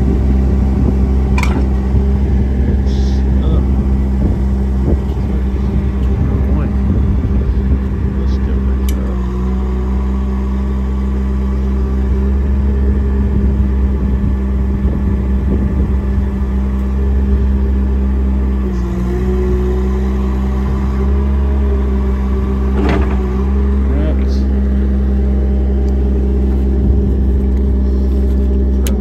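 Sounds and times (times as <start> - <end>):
engine-driven compressor running: 0.0 - 29.0.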